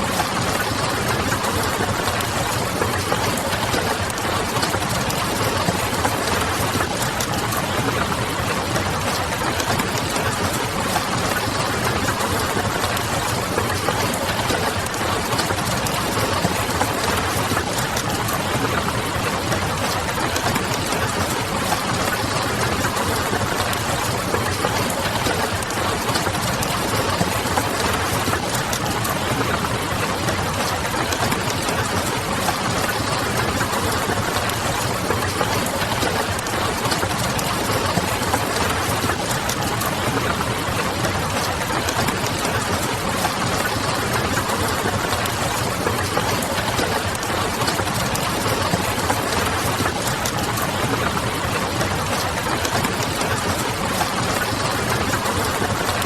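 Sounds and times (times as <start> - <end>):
rain: 0.0 - 56.0.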